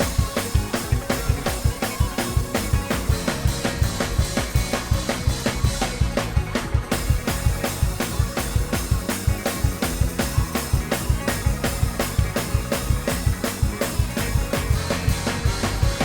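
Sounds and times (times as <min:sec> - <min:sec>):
drum kit and keyboard groove: 0:00.0 - 0:16.0.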